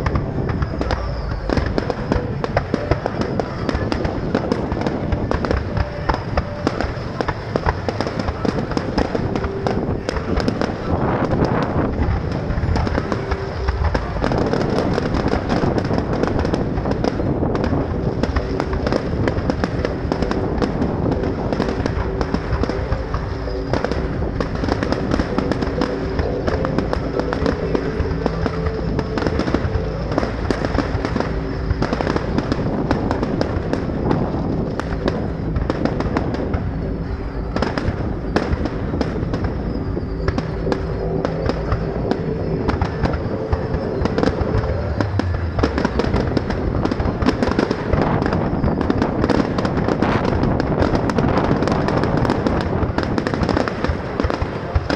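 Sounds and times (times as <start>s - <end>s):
fireworks bangs and crackling: 0.0s - 54.9s
music playing: 0.0s - 54.9s.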